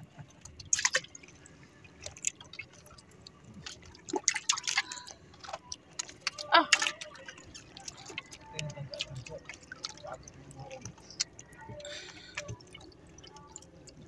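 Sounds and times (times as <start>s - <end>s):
water splashing in a bucket: 0.4s - 14.0s.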